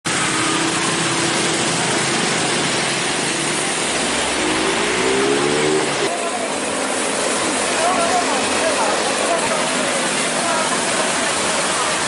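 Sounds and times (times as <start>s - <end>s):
engine accelerating: 0.1s - 12.0s
passing car engines: 0.1s - 12.0s
traffic hiss on wet street: 0.1s - 12.0s.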